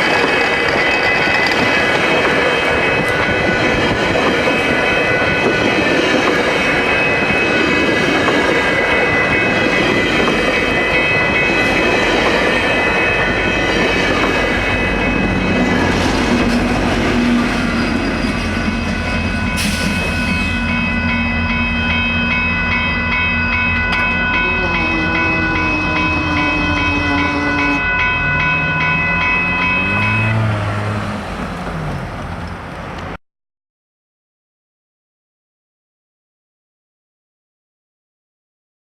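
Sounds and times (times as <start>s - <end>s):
train passing on rails: 0.0s - 33.2s.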